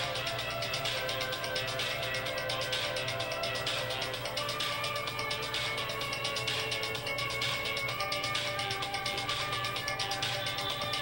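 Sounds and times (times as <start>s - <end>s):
fast ticking beat: 0.0s - 11.0s.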